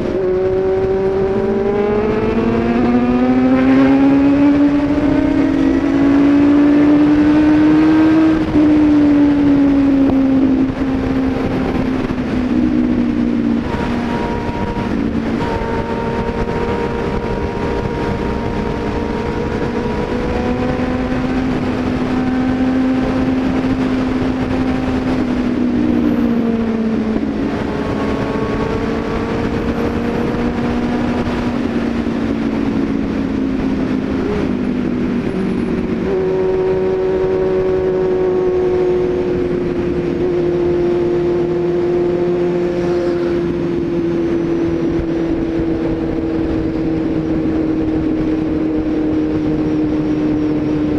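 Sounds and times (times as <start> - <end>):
road and wind noise: 0.0 - 50.9
vehicle engine running: 0.0 - 50.9.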